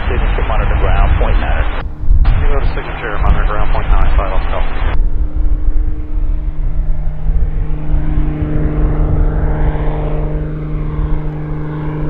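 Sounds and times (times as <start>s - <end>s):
low rumble: 0.0s - 12.0s
propeller plane droning: 0.0s - 12.0s.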